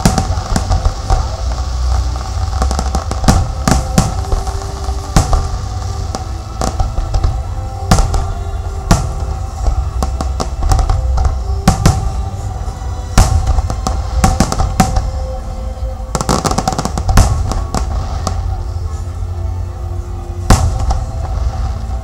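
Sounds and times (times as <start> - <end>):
fireworks bangs and crackling: 0.0 - 22.0
music with sustained tones: 0.0 - 22.0.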